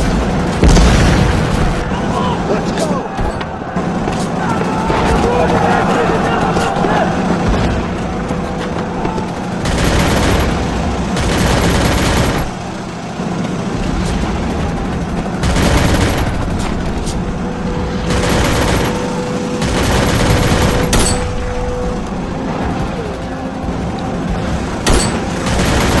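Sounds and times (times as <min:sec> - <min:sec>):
steady low rumble: 0:00.0 - 0:02.7, 0:05.2 - 0:26.0
rapid gunfire volleys: 0:00.0 - 0:05.8, 0:06.4 - 0:21.8, 0:24.4 - 0:26.0.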